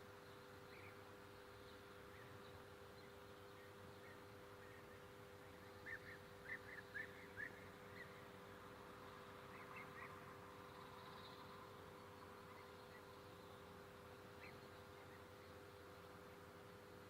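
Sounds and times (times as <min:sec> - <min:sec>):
faint bird chirping: 0:00.0 - 0:17.0
steady low hum: 0:00.0 - 0:17.0.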